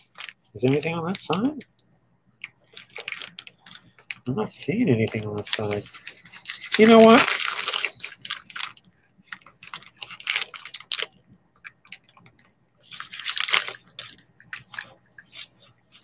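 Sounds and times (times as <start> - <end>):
plastic bag crinkling: 0.0 - 1.6, 2.4 - 16.0.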